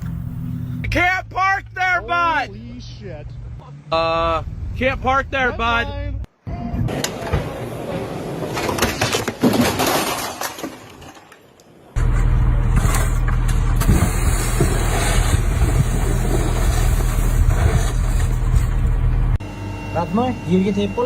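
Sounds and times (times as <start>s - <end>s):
vehicle engine rumbling: 0.0s - 8.4s, 12.0s - 21.0s.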